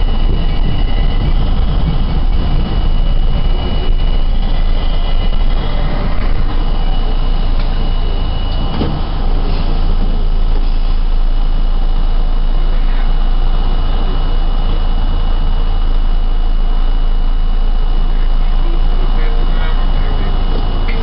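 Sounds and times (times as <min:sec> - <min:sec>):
high-pitched whine: 0:00.0 - 0:21.0
subway wheels rumbling on rail: 0:00.0 - 0:21.0.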